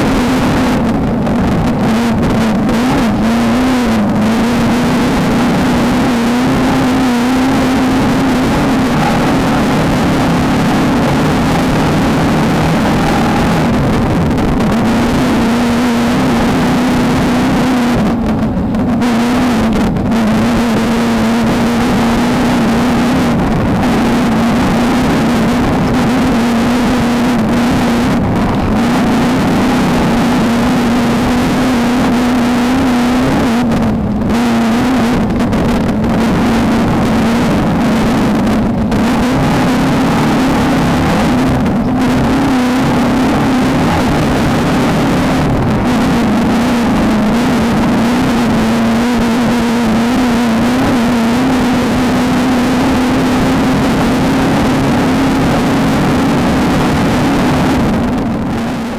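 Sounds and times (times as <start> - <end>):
race car engine at high revs: 0.0 - 58.9
wind noise: 0.0 - 58.9.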